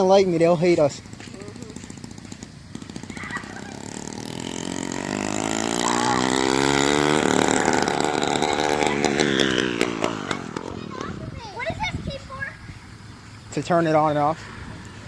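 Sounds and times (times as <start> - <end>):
two-stroke dirt bike engine: 0.0 - 12.1.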